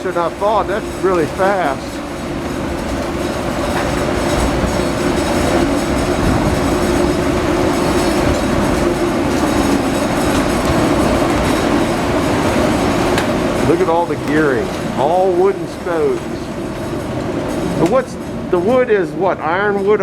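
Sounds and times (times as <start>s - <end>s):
mill gearing rumbling clatter: 0.0s - 20.0s.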